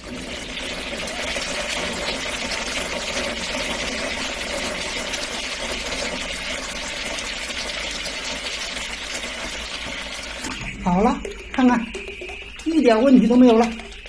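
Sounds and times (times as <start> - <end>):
water draining down toilet bowl: 0.0 - 14.0.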